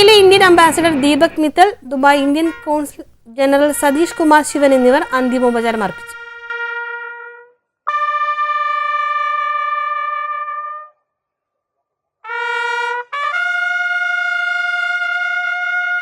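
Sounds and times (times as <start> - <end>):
solo trumpet call: 1.9 - 11.0, 12.2 - 16.0.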